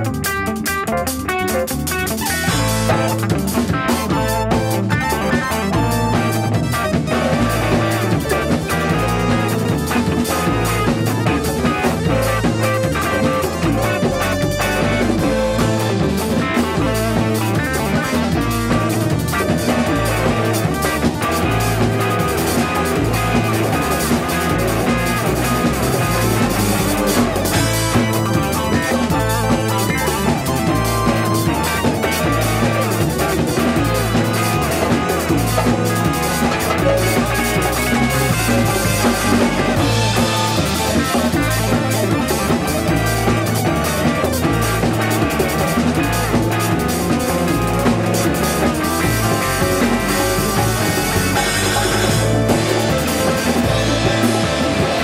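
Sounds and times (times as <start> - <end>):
bass guitar: 0.0 - 55.0
congas: 0.0 - 55.0
drum kit: 0.0 - 55.0
electric guitar: 0.0 - 55.0
keyboard: 0.0 - 55.0.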